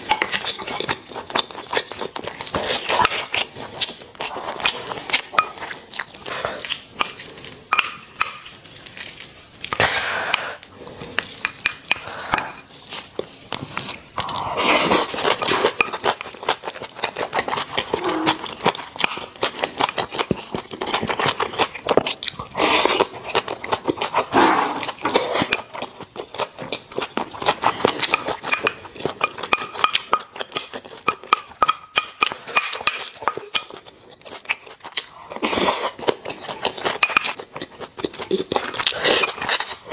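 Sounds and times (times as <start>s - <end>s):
close chewing and mouth sounds: 0.0s - 39.9s.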